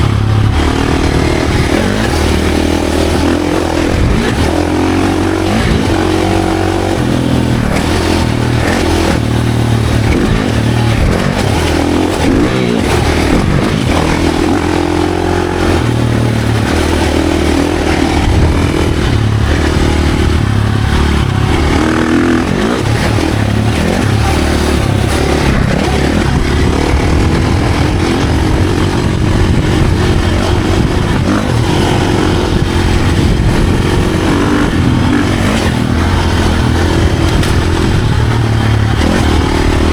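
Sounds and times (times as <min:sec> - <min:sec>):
dirt bike engine revving: 0:00.0 - 0:39.9
rushing noise: 0:00.0 - 0:39.9.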